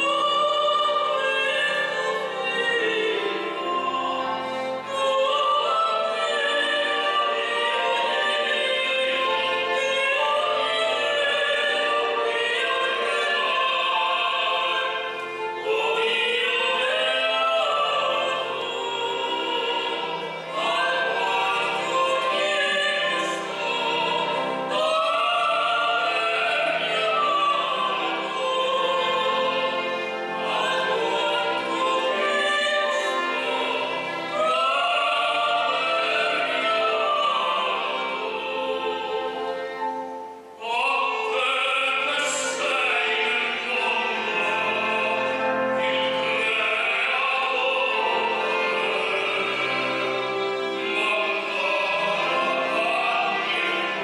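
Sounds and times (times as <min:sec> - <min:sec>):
operatic soprano singing: 0:00.0 - 0:54.0
operatic tenor singing: 0:00.0 - 0:54.0
piano: 0:00.0 - 0:54.0
violin: 0:00.0 - 0:54.0.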